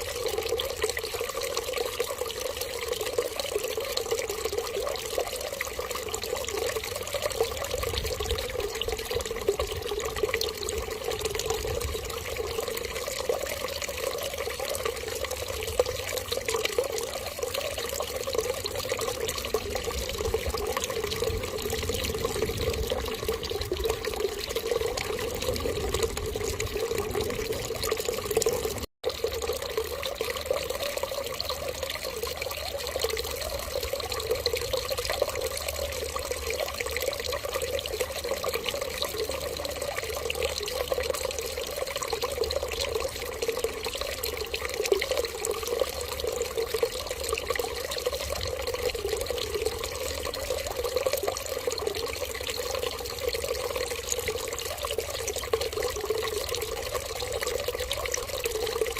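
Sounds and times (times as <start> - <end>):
water trickling: 0.0 - 58.9.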